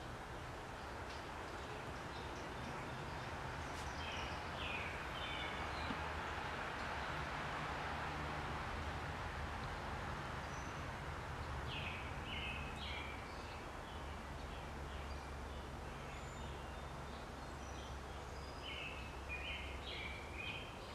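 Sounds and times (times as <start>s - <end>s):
sparrows chirping: 0.0s - 7.3s, 10.3s - 20.9s.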